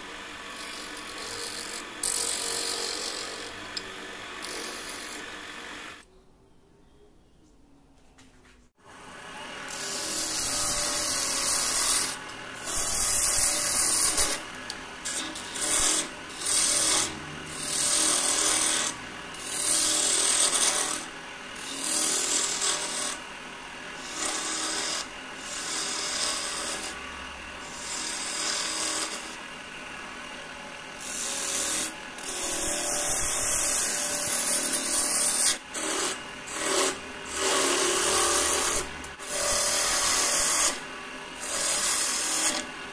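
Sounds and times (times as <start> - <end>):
hissing wood lathe cuts: 0.0 - 6.0, 8.9 - 42.9
wood lathe running: 0.0 - 6.0, 9.0 - 42.9.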